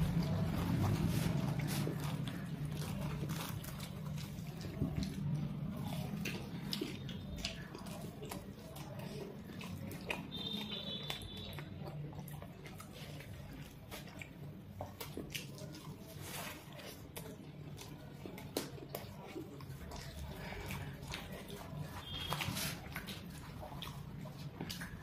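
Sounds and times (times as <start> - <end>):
people chewing with wet mouth sounds: 0.0 - 25.0.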